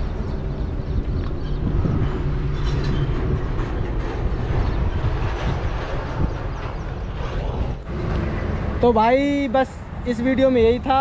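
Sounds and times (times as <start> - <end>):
heavy vehicle passing: 1.6 - 10.6.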